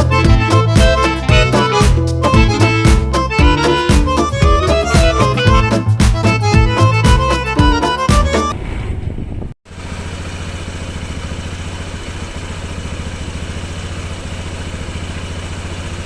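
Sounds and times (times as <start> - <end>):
scooter engine idling: 0.0 - 8.6, 9.7 - 16.0.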